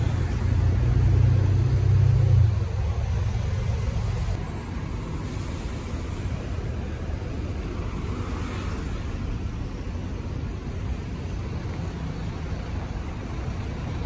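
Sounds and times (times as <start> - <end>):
steady traffic noise: 0.0 - 14.0
vehicle engine rumbling: 0.0 - 14.0.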